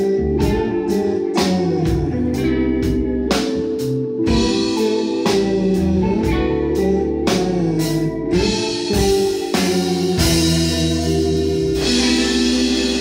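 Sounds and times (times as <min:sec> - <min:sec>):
drum kit striking: 0:00.0 - 0:13.0
electric bass low notes: 0:00.0 - 0:13.0
electric guitar: 0:00.0 - 0:13.0.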